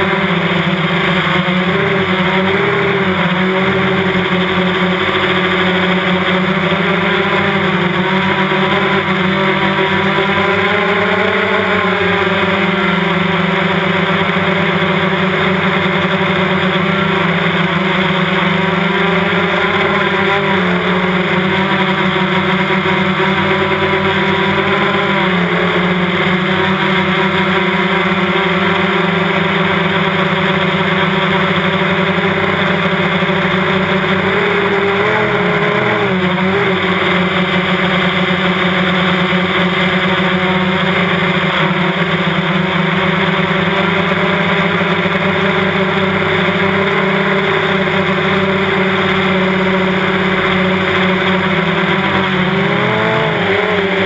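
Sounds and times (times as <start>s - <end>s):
drone buzzing whine: 0.0s - 54.0s.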